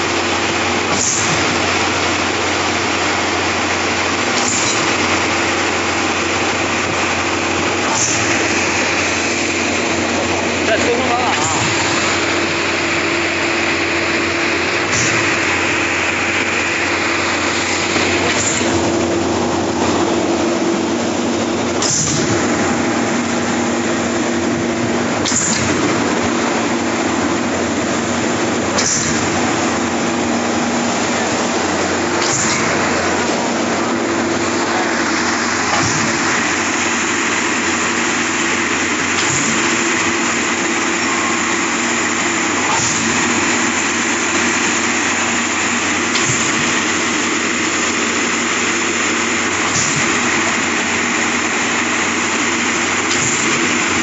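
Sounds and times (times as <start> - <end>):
concrete pump engine running: 0.0 - 54.0.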